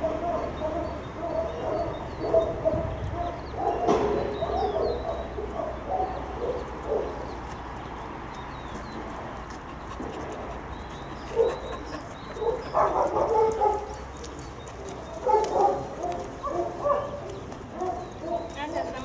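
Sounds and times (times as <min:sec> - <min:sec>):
dogs barking: 0:00.0 - 0:07.4, 0:10.2 - 0:19.0.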